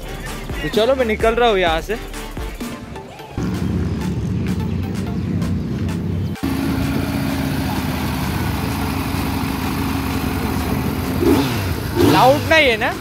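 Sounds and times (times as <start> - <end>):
motorcycle engines idling: 2.5 - 13.0.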